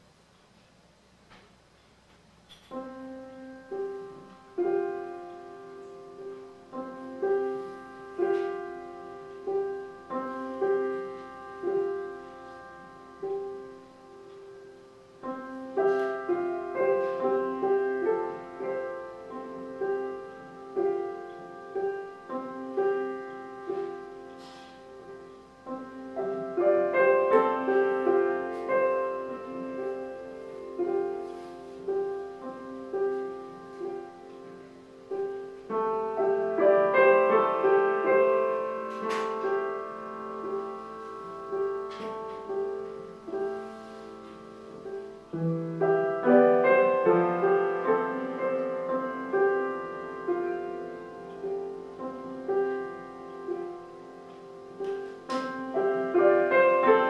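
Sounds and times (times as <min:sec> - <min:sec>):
slow upright piano: 0:00.0 - 0:57.0.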